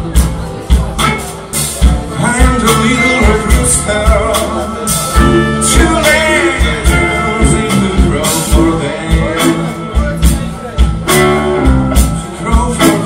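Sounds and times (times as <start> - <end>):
live blues band playing: 0.0 - 13.0
person singing: 1.2 - 13.0.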